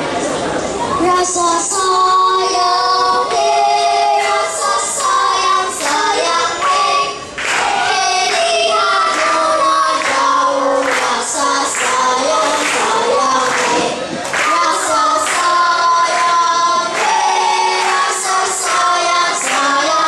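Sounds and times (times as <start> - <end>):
children singing into microphones: 0.8 - 20.0.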